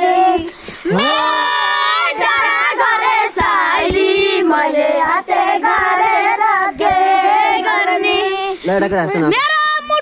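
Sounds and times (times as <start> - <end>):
boys singing in chorus: 0.0 - 8.8.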